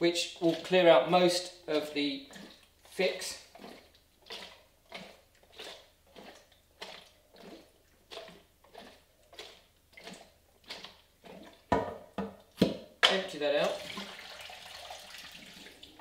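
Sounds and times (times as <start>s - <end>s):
water sloshing in a tank: 0.0s - 16.0s.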